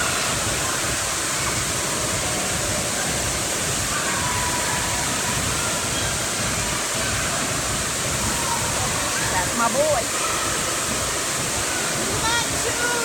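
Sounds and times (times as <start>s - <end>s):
fountains spraying and splashing water: 0.0s - 13.0s.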